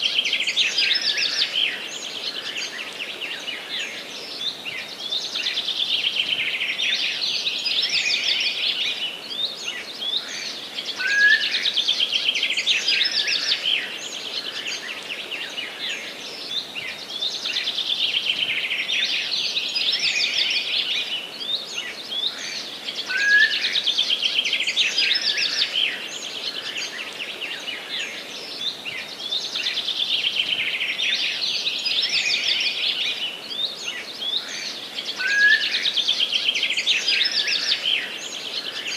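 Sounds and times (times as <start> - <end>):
songbird trilling song: 0.0 - 38.9.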